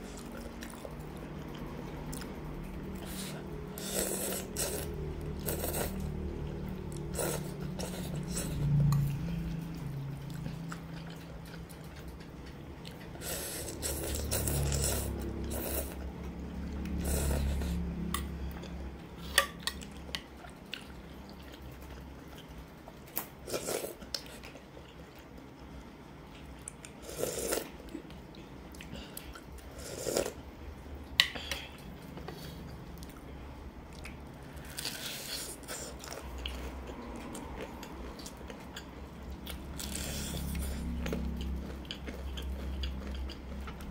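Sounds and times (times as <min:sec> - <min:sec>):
noodles slurped and chewed: 0:00.0 - 0:30.5, 0:31.4 - 0:43.9.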